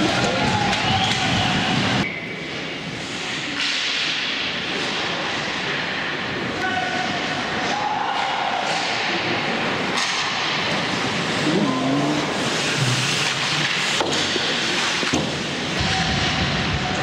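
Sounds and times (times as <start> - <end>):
arena noise: 0.0 - 17.0
skates carving ice: 0.0 - 17.0.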